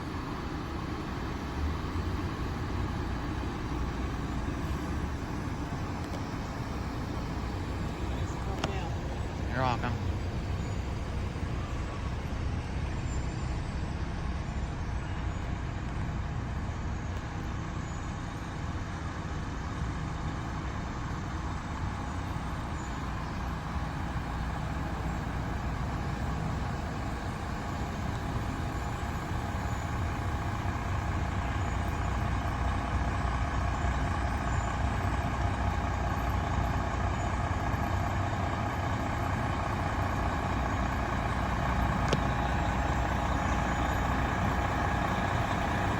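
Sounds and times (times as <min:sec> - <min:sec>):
fire truck diesel engine: 0:00.0 - 0:45.9.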